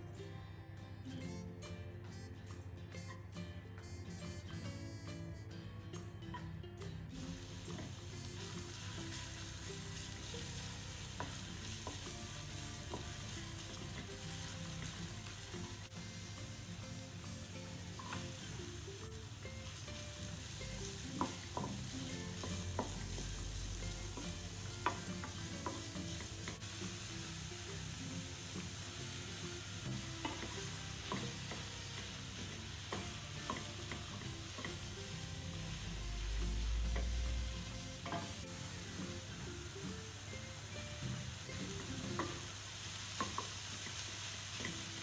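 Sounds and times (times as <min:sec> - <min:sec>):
vegetables sizzling in oil: 0:07.2 - 0:45.0.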